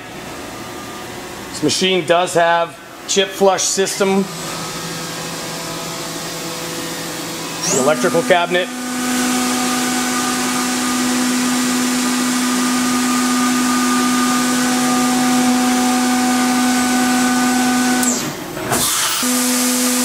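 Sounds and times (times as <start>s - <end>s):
machine hum: 0.0s - 18.6s.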